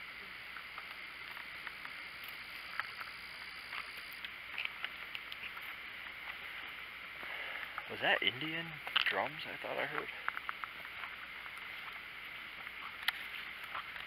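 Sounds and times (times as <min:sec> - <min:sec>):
faint steady hiss: 0:00.0 - 0:14.0
footsteps in undergrowth: 0:00.5 - 0:14.0.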